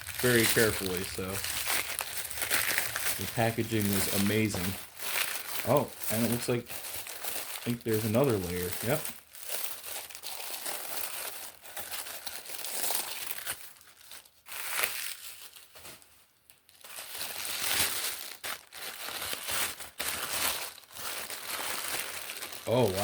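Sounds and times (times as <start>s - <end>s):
paper crinkling and rustling: 0.0s - 23.0s.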